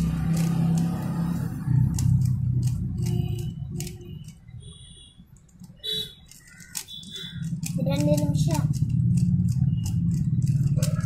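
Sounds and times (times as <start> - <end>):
puzzle cube clicking: 0.0 - 4.5, 5.4 - 11.0.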